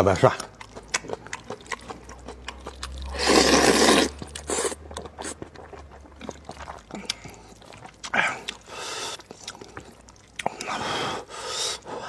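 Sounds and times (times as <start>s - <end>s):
wet chewing: 0.0s - 12.0s.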